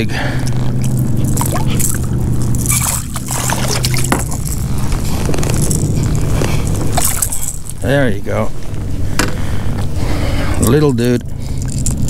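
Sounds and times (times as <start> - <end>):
steady low hum: 0.0 - 12.0
water splashing and sloshing: 0.0 - 12.0.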